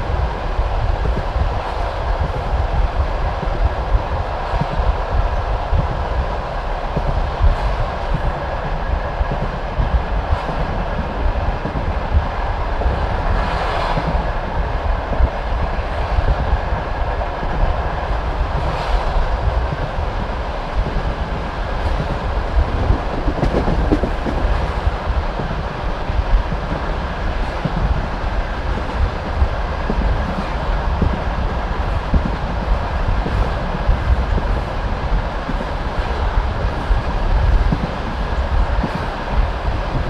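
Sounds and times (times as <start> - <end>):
train carriage rumbling on track: 0.0 - 40.0.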